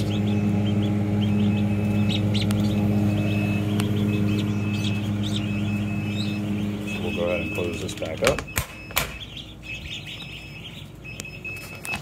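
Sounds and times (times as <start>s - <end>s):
ducklings peeping: 0.0s - 12.0s
low machine hum: 0.0s - 12.0s.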